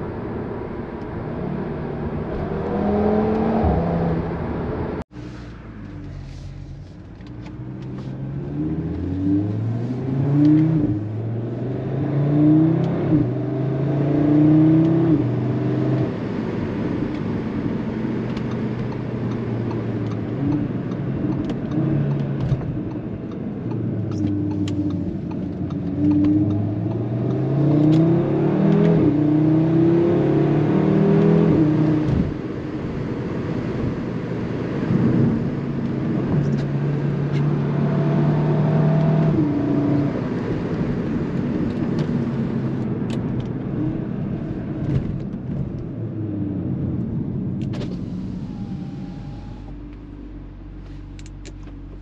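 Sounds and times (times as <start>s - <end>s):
car engine accelerating through gears: 0.0s - 52.0s.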